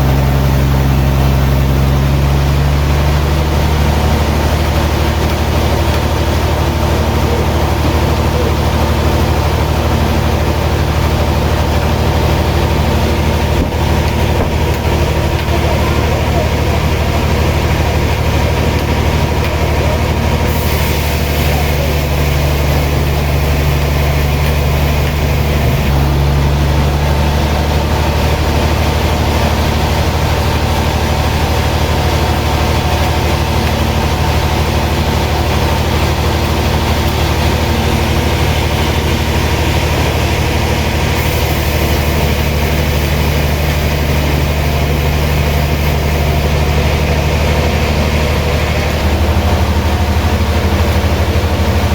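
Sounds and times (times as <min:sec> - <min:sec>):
sawmill machinery humming: 0:00.0 - 0:51.9.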